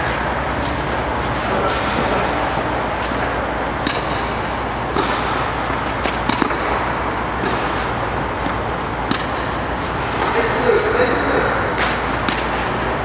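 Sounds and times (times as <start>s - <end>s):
tennis balls struck and bouncing: 0.0s - 10.9s, 11.7s - 13.0s
steady hum and hiss: 0.0s - 13.0s.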